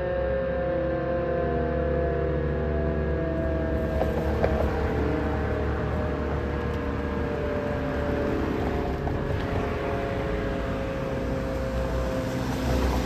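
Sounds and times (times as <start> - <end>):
warning siren chord: 0.0 - 13.0.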